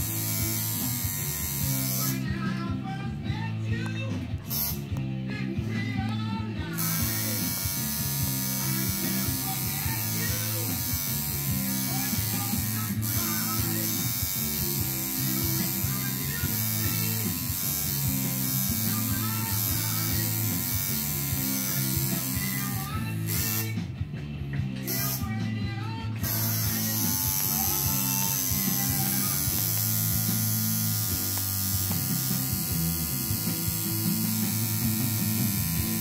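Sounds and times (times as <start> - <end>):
tattoo machine buzzing: 0.0 - 2.6, 4.4 - 5.1, 6.7 - 23.8, 24.8 - 25.4, 26.2 - 36.0
background music: 0.0 - 36.0.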